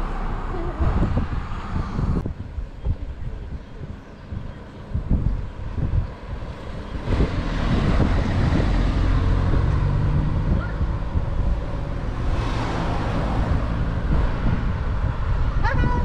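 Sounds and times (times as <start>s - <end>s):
car engine and road rumble: 0.0s - 16.0s
wind noise on microphone: 0.0s - 16.0s.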